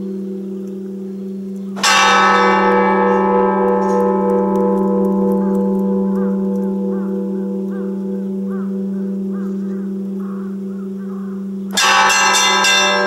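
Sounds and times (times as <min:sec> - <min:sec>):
church bell struck: 0:00.0 - 0:13.0
hum of ringing bells: 0:00.0 - 0:13.0.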